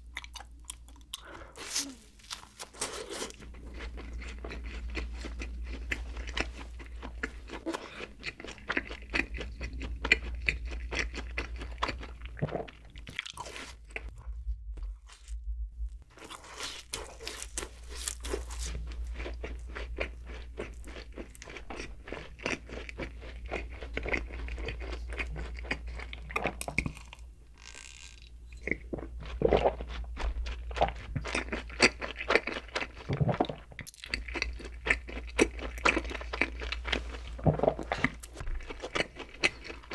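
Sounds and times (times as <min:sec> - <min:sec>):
chewing and crunching: 0:00.0 - 0:15.4, 0:16.1 - 0:27.2, 0:28.6 - 0:39.9.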